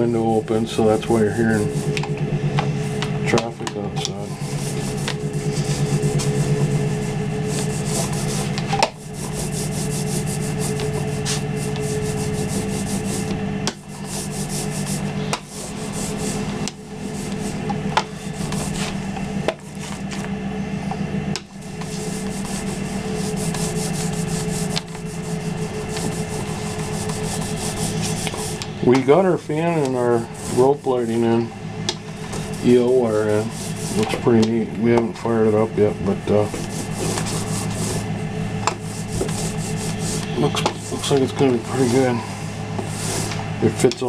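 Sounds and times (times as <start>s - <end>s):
paint roller rasping on wood: 0.0s - 20.3s, 21.5s - 44.0s.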